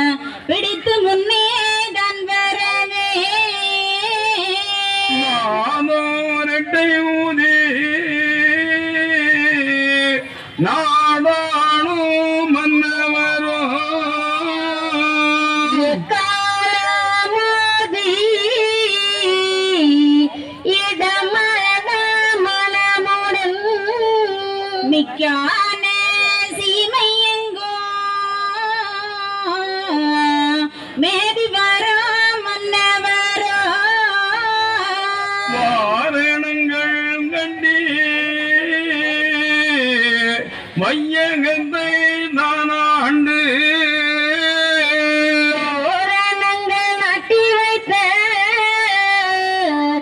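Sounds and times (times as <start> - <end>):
person singing devotional chant: 0.0 - 50.0.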